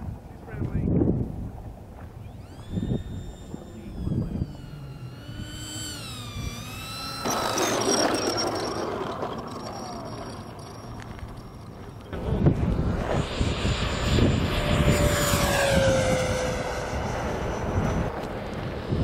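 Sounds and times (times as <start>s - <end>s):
jet touching down on runway: 0.0s - 19.0s
model jet fan whine: 0.4s - 19.0s.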